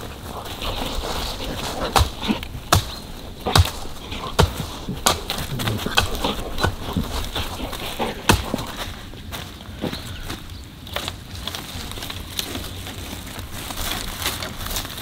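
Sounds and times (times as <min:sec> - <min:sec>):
dogs scuffling in dry leaves: 0:00.0 - 0:15.0
twigs snapping: 0:00.0 - 0:15.0.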